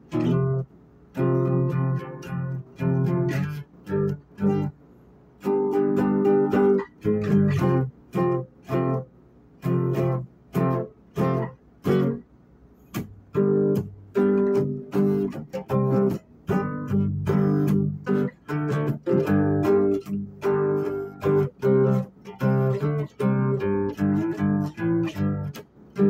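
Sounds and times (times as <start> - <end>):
acoustic guitar strumming chords: 0.0 - 4.8, 5.4 - 12.2, 12.8 - 26.0.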